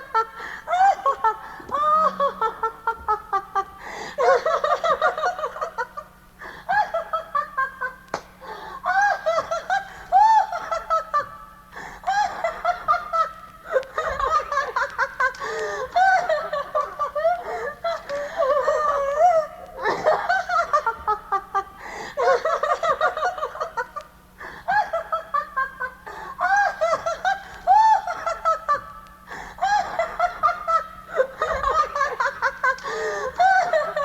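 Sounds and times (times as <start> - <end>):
recorded laughter: 0.0 - 8.2, 8.8 - 34.0.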